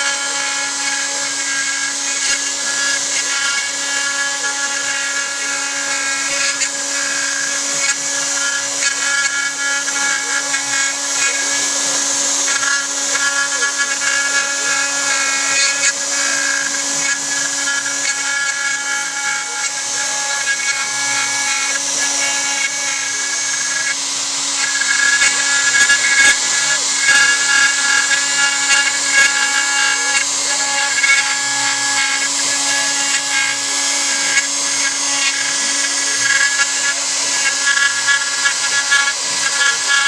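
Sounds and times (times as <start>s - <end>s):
router spindle whining: 0.0s - 40.0s.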